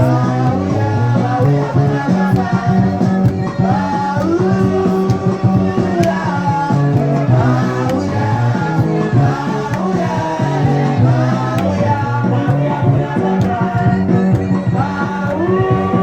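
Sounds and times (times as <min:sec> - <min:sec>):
guitar: 0:00.0 - 0:16.0
person singing: 0:00.0 - 0:16.0
steady bass line: 0:00.0 - 0:16.0.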